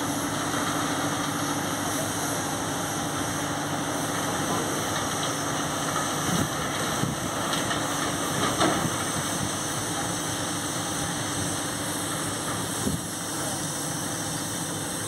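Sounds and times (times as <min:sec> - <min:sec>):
locomotive diesel engine running: 0:00.0 - 0:15.0.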